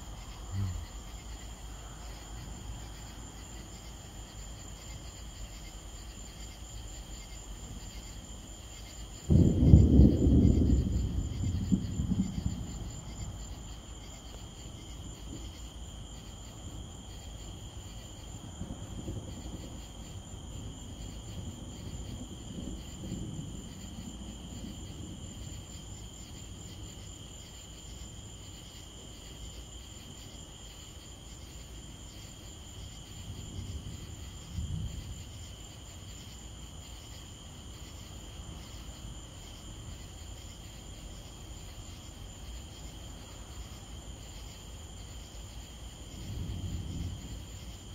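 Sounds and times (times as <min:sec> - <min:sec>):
thunder rumbling: 0:00.0 - 0:06.3, 0:07.1 - 0:27.6, 0:31.4 - 0:47.9
night insects trilling: 0:00.0 - 0:47.9.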